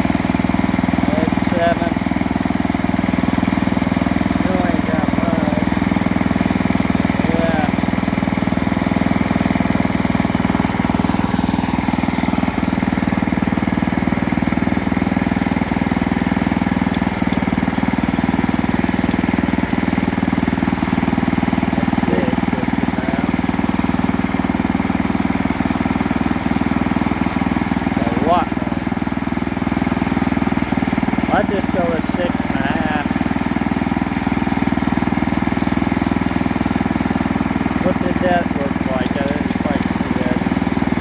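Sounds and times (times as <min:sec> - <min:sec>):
sawmill engine running: 0:00.0 - 0:41.0.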